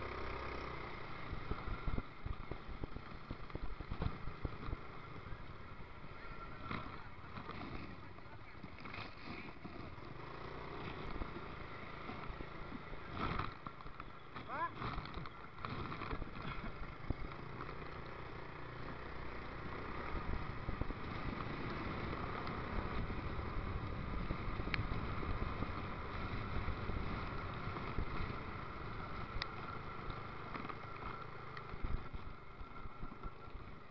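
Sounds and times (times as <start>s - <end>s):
motorcycle engine: 0.0s - 33.9s
road rumble: 0.0s - 33.9s.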